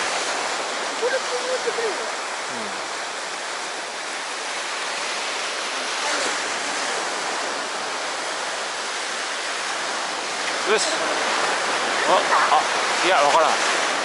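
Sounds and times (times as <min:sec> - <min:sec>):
sea waves washing on shore: 0:00.0 - 0:14.0.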